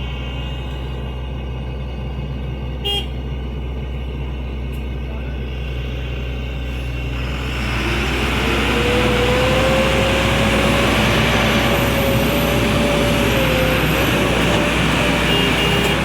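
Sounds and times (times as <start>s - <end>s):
heavy diesel engine revving: 0.0s - 16.0s.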